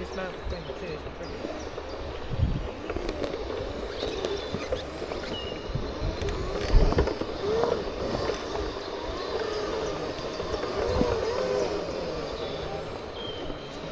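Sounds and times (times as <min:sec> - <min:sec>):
segway motors whining: 0:00.0 - 0:13.9
wind rumble on microphone: 0:00.0 - 0:13.9.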